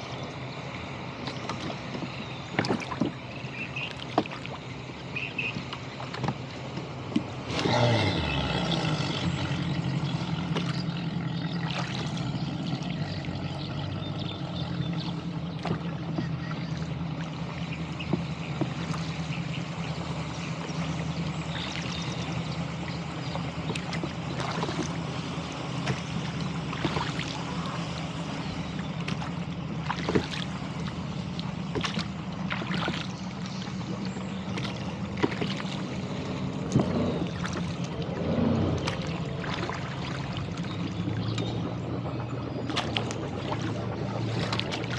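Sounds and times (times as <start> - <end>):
water lapping and splashing: 0.0 - 44.9
engine idling: 6.6 - 44.9.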